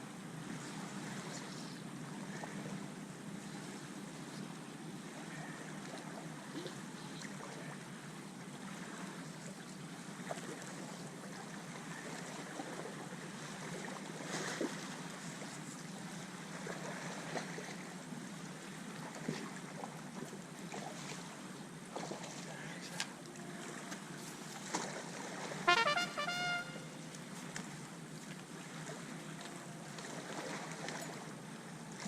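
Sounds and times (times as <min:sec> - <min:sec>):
wind: 0:00.0 - 0:32.0.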